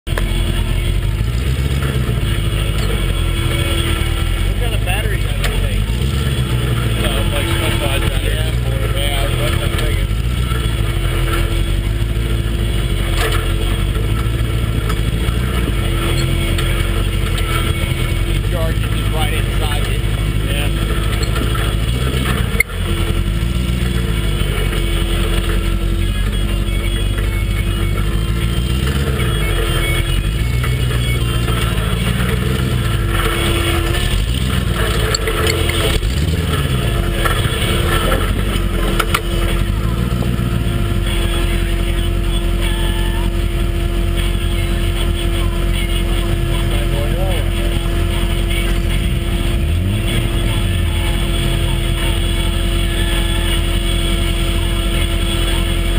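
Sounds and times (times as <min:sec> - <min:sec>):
buggy engine running: 0:00.0 - 0:55.9.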